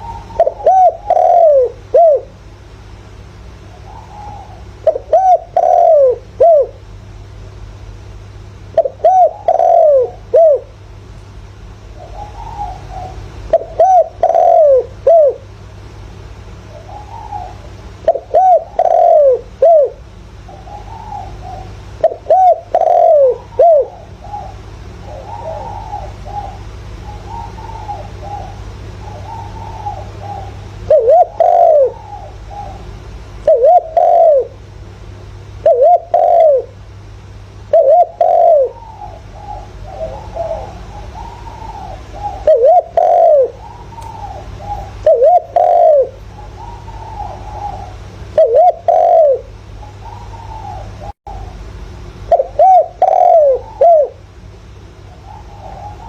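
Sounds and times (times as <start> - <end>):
dove cooing: 0.0 - 2.4, 3.7 - 6.8, 8.7 - 10.8, 11.9 - 15.5, 16.6 - 34.7, 35.6 - 37.0, 37.6 - 56.0.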